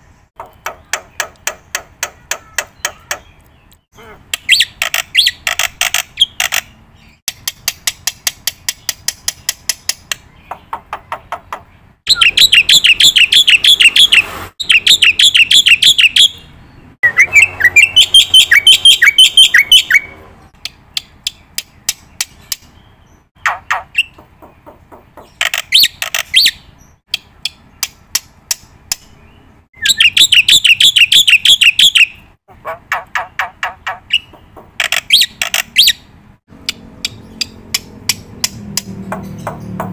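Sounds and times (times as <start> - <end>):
bird chirping and trilling: 0.1 - 39.9.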